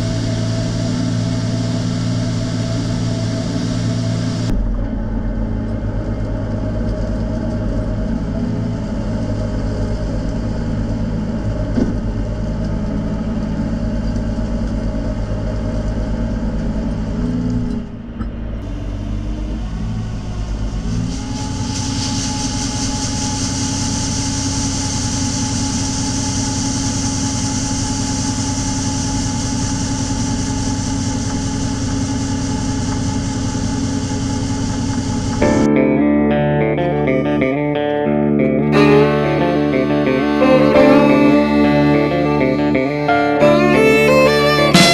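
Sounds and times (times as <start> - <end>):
high whine and hiss: 0.0 - 15.3, 18.4 - 35.8, 38.5 - 44.9
diesel engine droning: 0.0 - 44.9.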